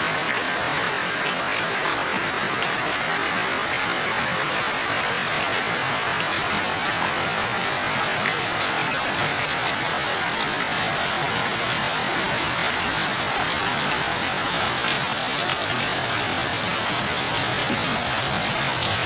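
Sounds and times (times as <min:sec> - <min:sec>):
heavy rain on plants: 0:00.0 - 0:19.0.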